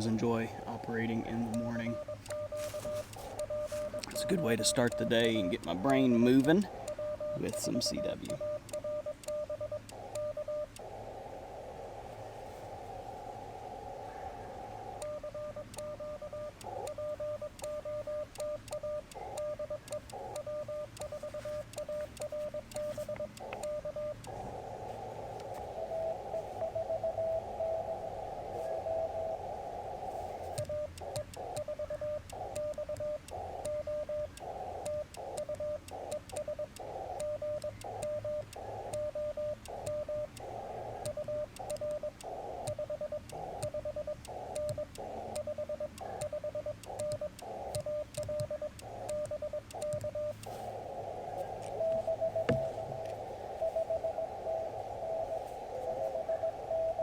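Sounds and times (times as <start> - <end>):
morse code beeps: 0.0 - 13.8, 14.6 - 57.0
faint higher-pitched morse code: 0.0 - 14.0, 14.6 - 57.0
radio band hiss: 0.0 - 57.0.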